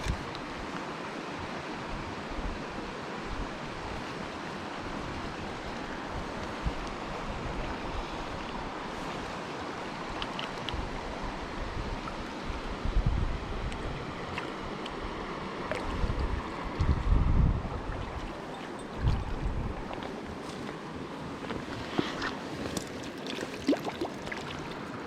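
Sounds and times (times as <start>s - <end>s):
stream rushing over rocks: 0.0s - 17.2s, 17.8s - 25.0s.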